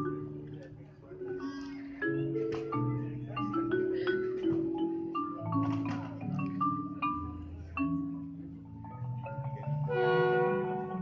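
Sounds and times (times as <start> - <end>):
marimba melody: 0.0 - 11.0.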